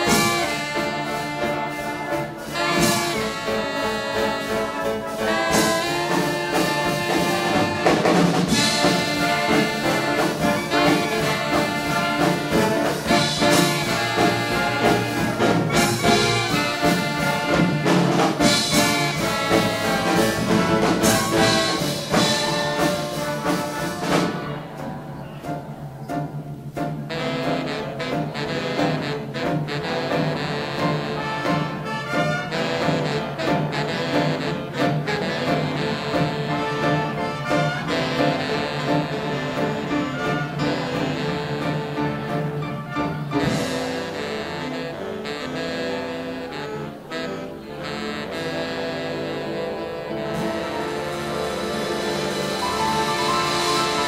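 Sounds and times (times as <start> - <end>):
big band swing jazz: 0.0 - 54.0.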